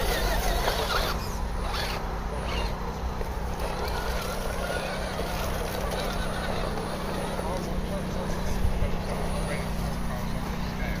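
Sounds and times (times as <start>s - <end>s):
electric motor and gears whirring: 0.0s - 11.0s.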